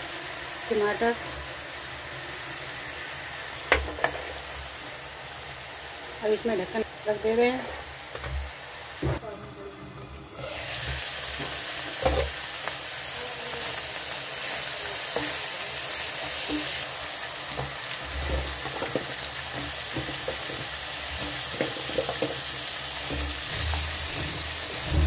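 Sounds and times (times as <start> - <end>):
masala sizzling in hot oil: 0.0 - 25.0.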